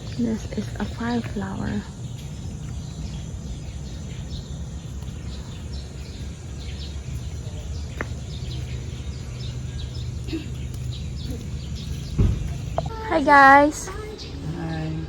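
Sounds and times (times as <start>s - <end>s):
insect drone: 0.0s - 15.0s
small birds chirping: 0.0s - 15.0s.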